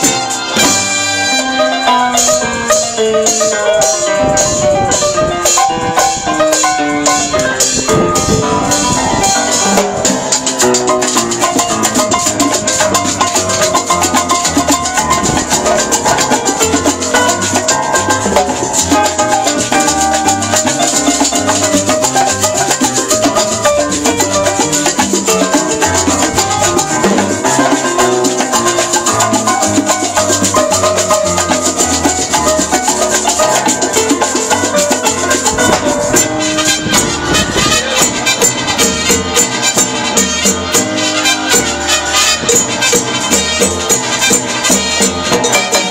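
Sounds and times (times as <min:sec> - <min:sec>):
bass line: 0:00.0 - 0:45.9
congas: 0:00.0 - 0:45.9
latin band playing: 0:00.0 - 0:45.9
rattling hand percussion: 0:00.0 - 0:45.9.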